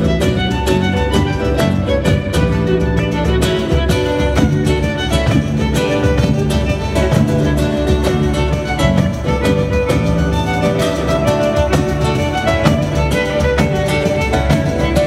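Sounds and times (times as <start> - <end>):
frame drum with jingles: 0.0 - 15.0
violin melody: 0.0 - 15.0.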